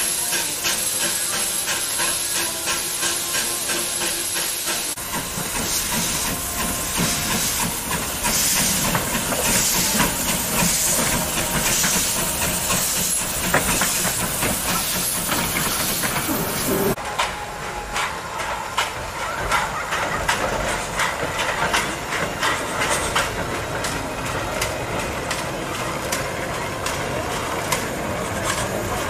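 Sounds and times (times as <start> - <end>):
locomotive chuffing: 0.0 - 29.0
steam hissing from locomotive: 0.0 - 29.0.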